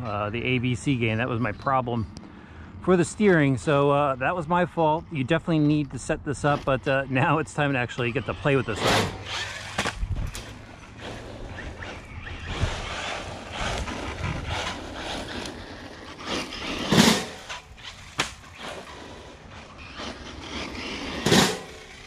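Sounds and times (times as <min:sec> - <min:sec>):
rc buggy motor and tyres: 0:00.0 - 0:22.0.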